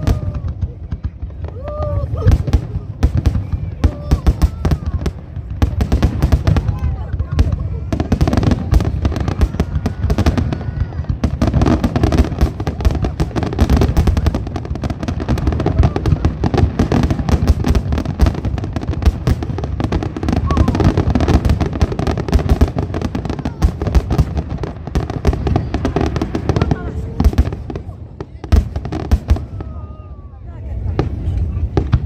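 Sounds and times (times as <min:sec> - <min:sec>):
fireworks cracking and banging: 0:00.0 - 0:32.0.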